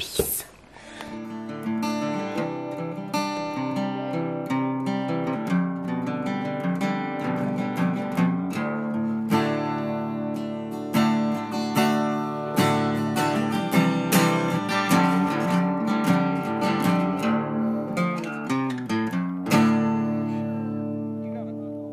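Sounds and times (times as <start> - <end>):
acoustic guitar strumming: 0.8 - 21.9.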